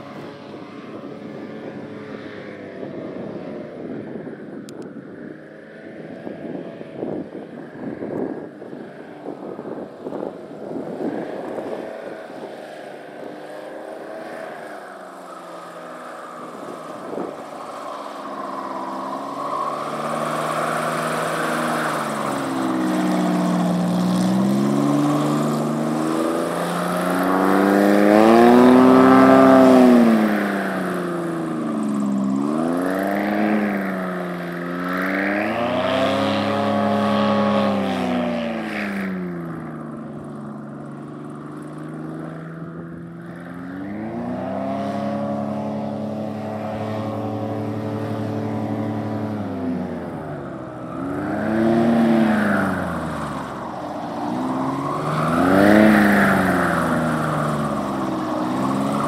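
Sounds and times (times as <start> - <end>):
airboat engine and propeller: 0.0 - 59.0.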